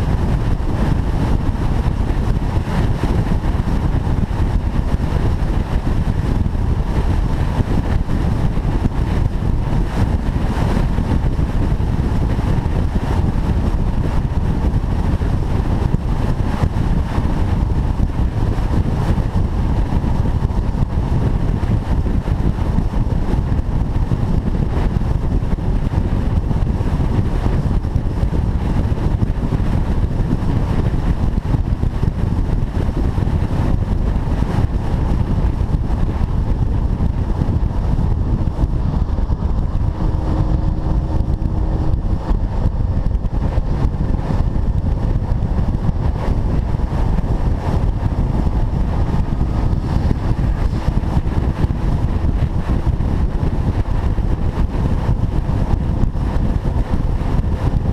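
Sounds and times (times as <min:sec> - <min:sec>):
car engine and road rumble: 0:00.0 - 0:57.9
wind buffeting microphone: 0:00.0 - 0:57.9.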